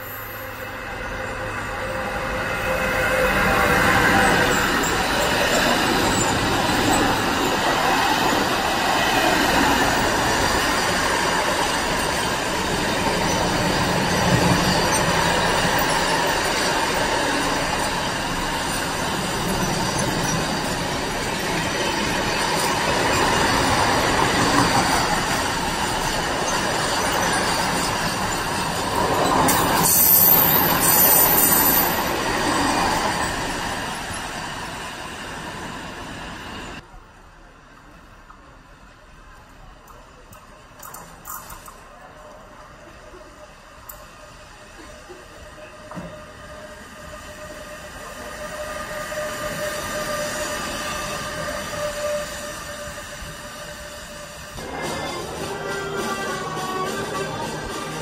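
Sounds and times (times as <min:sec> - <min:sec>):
high wheel squeal: 0:00.0 - 0:36.8, 0:45.5 - 0:58.0
freight train wheels rumbling: 0:00.0 - 0:58.0.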